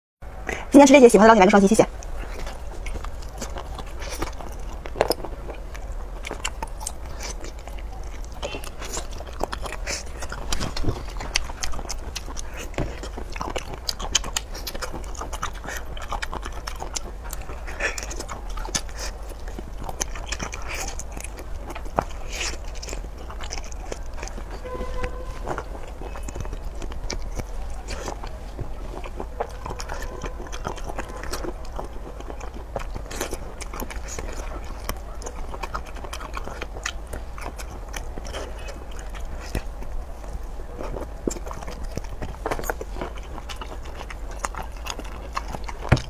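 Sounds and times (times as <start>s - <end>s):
steady low hum: 0.3s - 46.0s
person biting and chewing: 2.0s - 46.0s.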